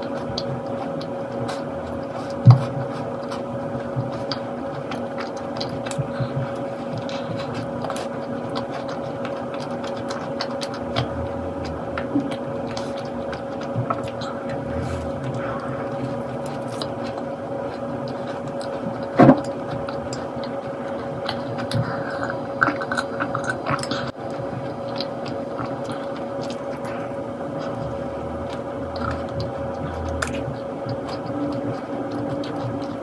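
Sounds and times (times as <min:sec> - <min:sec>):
person chewing crunchy biscuit: 0:00.0 - 0:33.0
steady hum: 0:00.0 - 0:33.0.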